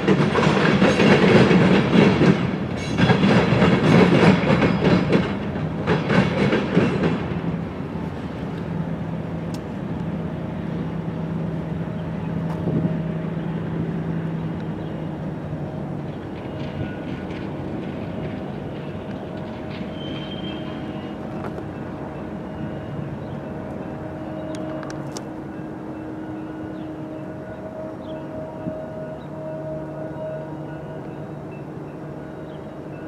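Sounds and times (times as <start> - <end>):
locomotive engine drone: 0.0 - 33.0
train rumbling: 0.0 - 33.0.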